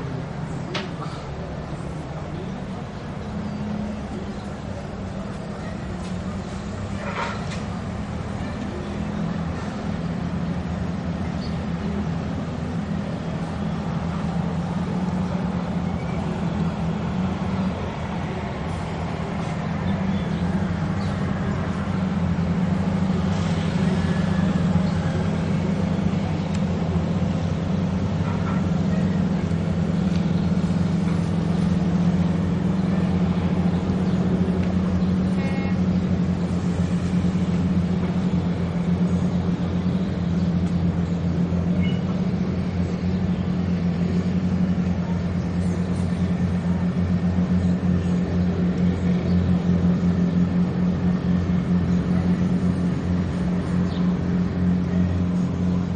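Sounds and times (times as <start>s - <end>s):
low mechanical drone: 0.0s - 55.9s.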